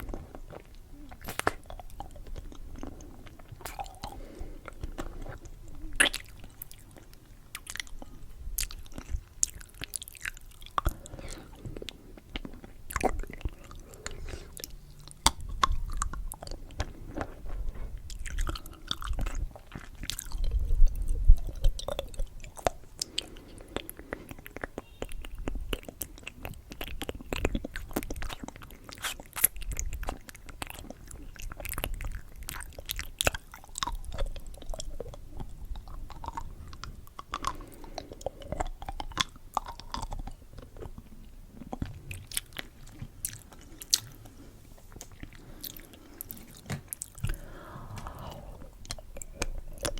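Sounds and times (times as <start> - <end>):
wet mouth clicks: 0.0 - 17.5, 18.1 - 49.9
candy chewed and crunched: 0.0 - 49.9.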